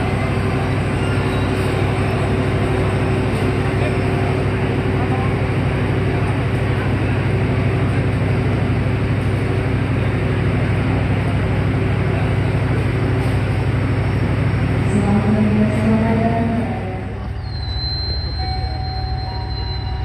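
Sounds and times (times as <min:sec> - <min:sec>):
locomotive diesel engine droning: 0:00.0 - 0:20.0.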